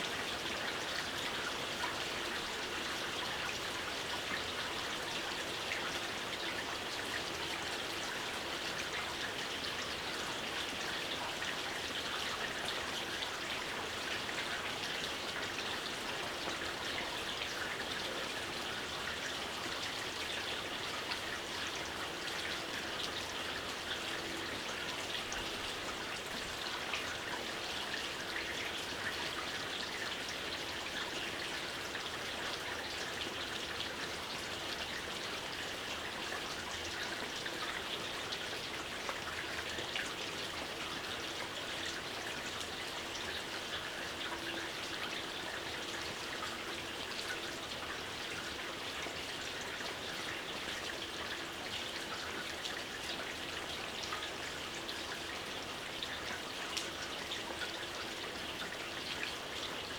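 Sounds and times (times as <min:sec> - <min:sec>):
gentle rain patter: 0:00.0 - 0:59.9.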